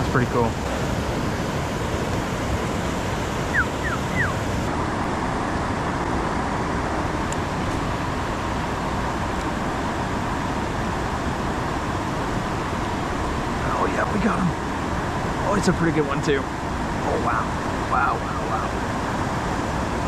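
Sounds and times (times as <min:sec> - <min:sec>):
outdoor rushing noise: 0:00.0 - 0:20.0.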